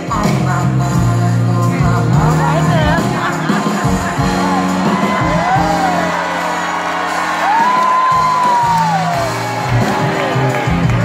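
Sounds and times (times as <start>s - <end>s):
backing track with low bass: 0.0s - 11.0s.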